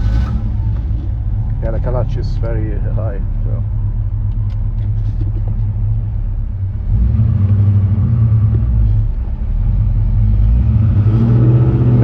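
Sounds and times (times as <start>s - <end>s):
car engine running low: 0.0s - 12.0s.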